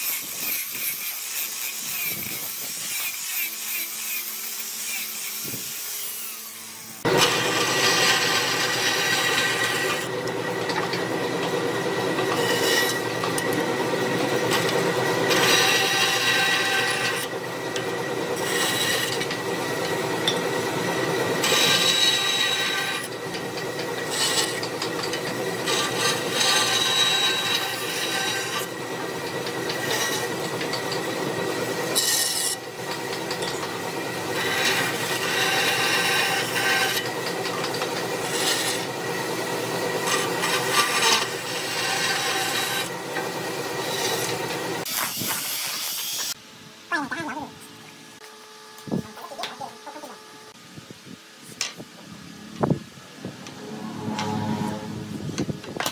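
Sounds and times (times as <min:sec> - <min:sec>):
angle grinder sanding wood: 0:00.0 - 0:46.4
bandsaw cutting wood: 0:00.0 - 0:46.4.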